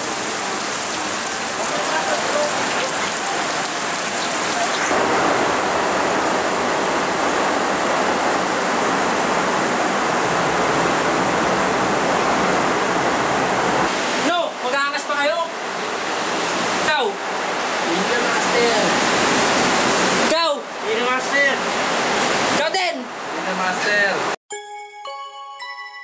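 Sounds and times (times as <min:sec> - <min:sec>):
heavy rain rushing: 0:00.0 - 0:24.4.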